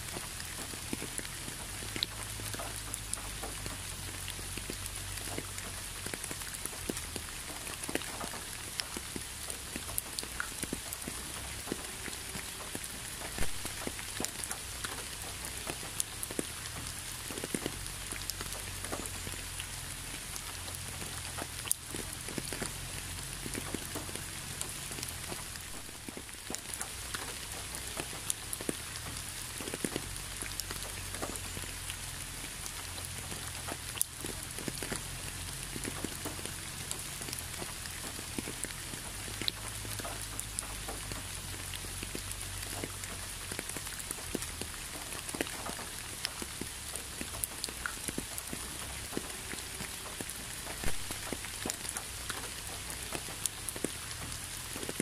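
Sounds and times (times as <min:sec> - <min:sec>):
raindrops ticking: 0:00.0 - 0:55.0
steady rain hiss: 0:00.0 - 0:55.0.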